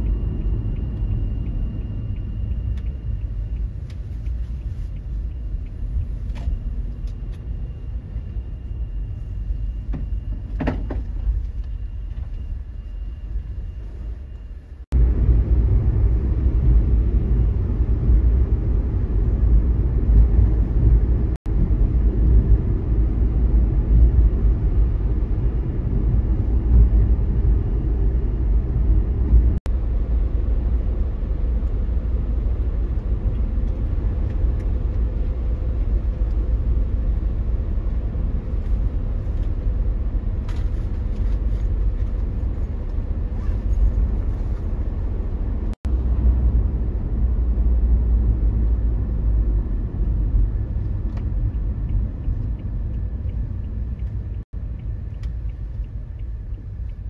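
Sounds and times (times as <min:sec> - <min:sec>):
van engine and tyre rumble: 0:00.0 - 0:57.0.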